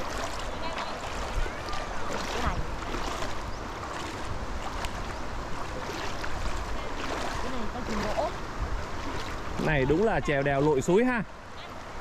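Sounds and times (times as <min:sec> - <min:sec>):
sharp splashes: 0:00.0 - 0:11.0
stream water rushing: 0:00.0 - 0:12.0.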